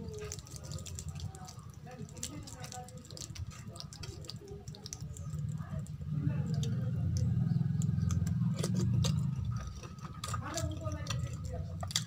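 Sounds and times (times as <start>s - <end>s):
wet squishing of food mixed by hand: 0.0s - 12.0s.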